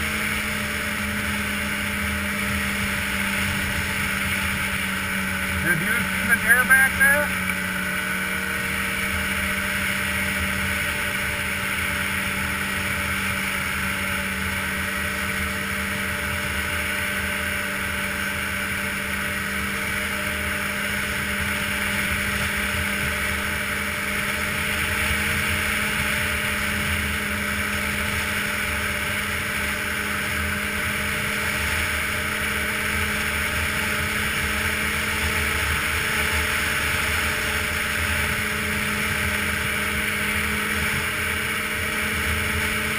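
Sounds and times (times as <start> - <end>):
snowmobile engine droning: 0.0 - 42.9.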